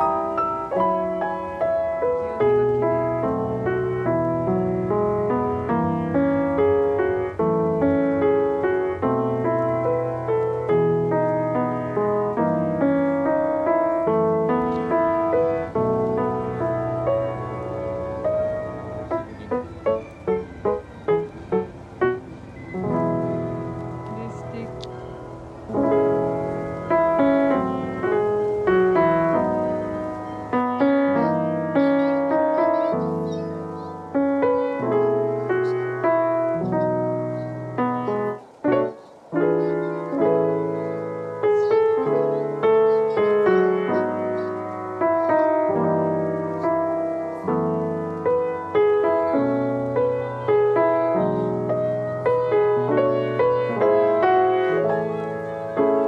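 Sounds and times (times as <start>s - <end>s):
piano background music: 0.0s - 56.0s.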